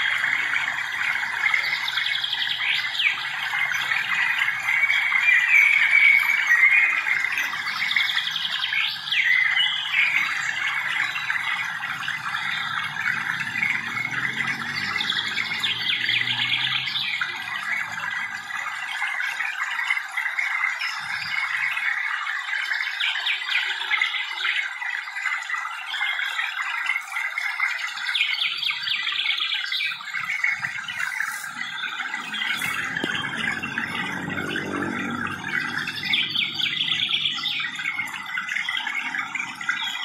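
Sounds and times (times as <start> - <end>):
small birds chirping and twittering: 0.0 - 40.0.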